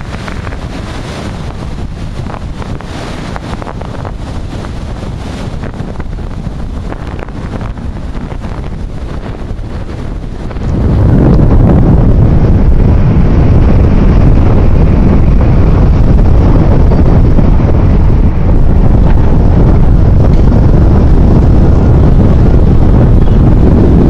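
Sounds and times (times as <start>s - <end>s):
storm surf breaking on shore: 0.0s - 24.0s
wind buffeting microphone: 0.0s - 24.0s.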